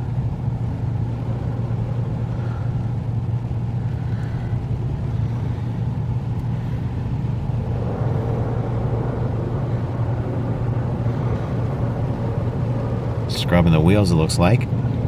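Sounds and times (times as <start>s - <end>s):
car wash machinery hum: 0.0s - 15.0s.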